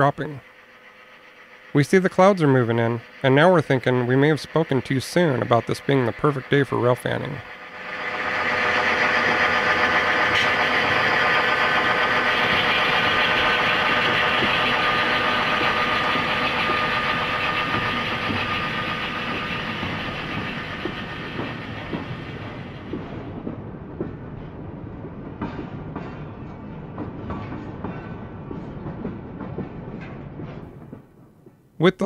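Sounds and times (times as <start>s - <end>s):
diesel locomotive engine: 0.0s - 32.0s.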